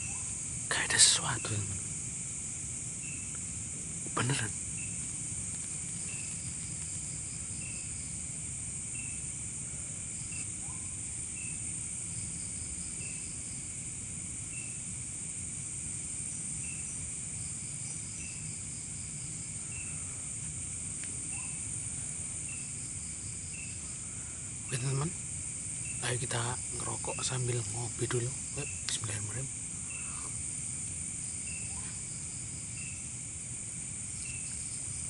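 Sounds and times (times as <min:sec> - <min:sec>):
pulsing insect call: 0:00.0 - 0:35.0
short insect chirp: 0:00.0 - 0:35.0.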